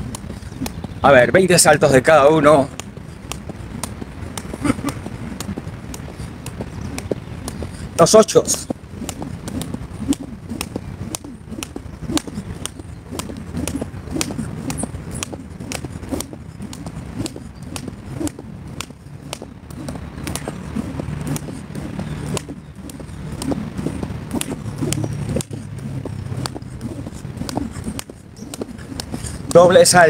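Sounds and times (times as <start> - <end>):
jump rope slapping stone: 0.0 - 1.0, 2.4 - 30.0
low steady rumble: 0.0 - 30.0
soft foot landings: 2.5 - 30.0.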